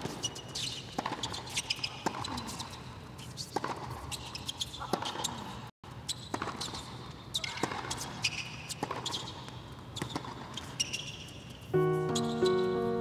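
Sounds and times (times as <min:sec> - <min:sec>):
shoes squeaking on court: 0:00.0 - 0:13.0.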